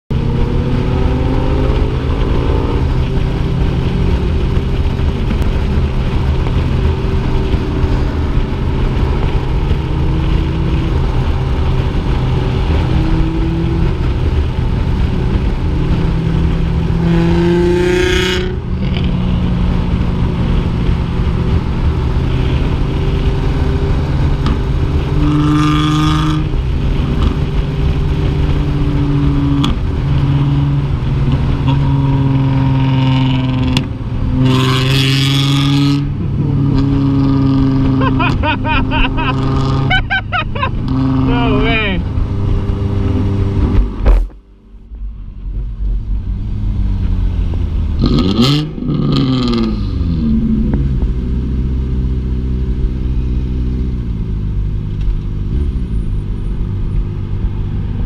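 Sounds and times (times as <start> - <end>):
motorcycle engine cruising: 0.1 - 58.0.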